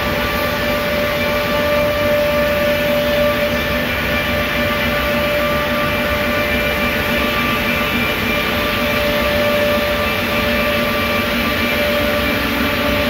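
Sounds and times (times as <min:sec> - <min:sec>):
trimming machine running with whine: 0:00.0 - 0:13.0.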